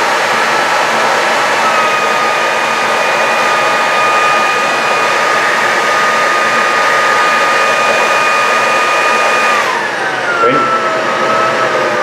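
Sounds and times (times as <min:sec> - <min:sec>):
stick vacuum running: 0:00.0 - 0:12.0.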